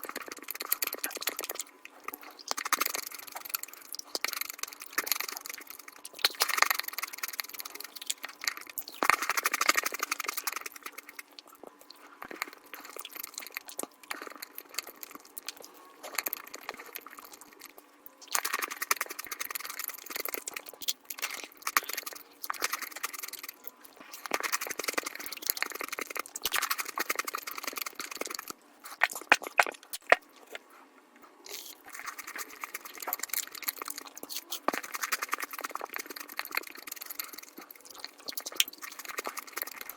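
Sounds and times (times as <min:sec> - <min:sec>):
crunching and chewing chocolate: 0:00.0 - 0:39.9.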